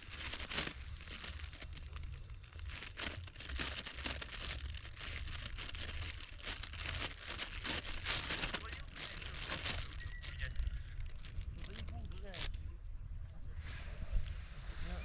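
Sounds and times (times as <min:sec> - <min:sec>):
crinkling and rustling: 0:00.0 - 0:12.6
low steady rumble: 0:00.0 - 0:15.0.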